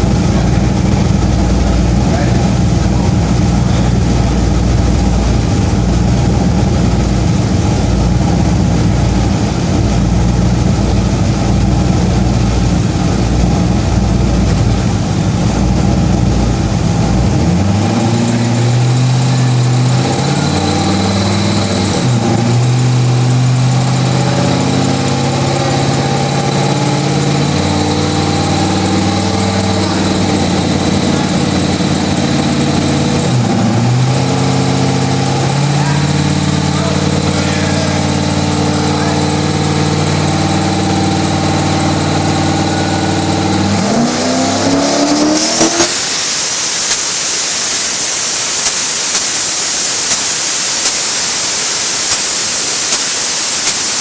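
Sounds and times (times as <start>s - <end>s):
engine idling unevenly: 0.0s - 52.8s.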